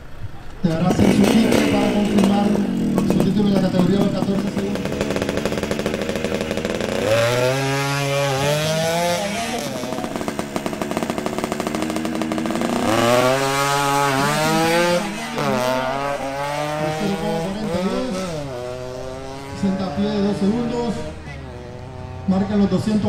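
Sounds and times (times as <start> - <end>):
two-stroke motorcycle accelerating: 0.0 - 23.0.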